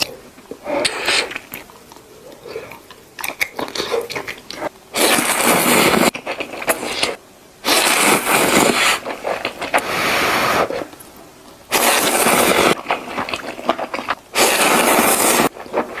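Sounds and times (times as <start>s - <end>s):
crunchy food chewing: 0.8s - 9.9s, 11.8s - 16.0s.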